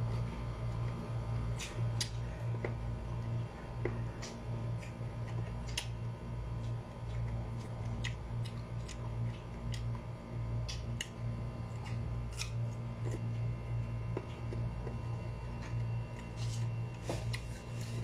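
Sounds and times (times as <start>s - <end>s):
steady low hum: 0.0s - 18.0s
crunchy chewing: 0.1s - 18.0s.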